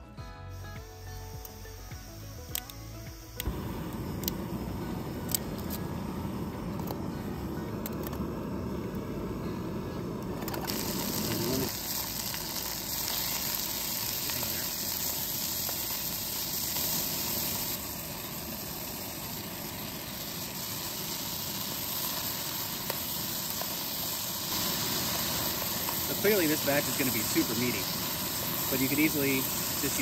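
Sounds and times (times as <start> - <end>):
food sizzling in pot: 0.0 - 30.0
gas stove hissing: 0.0 - 30.0.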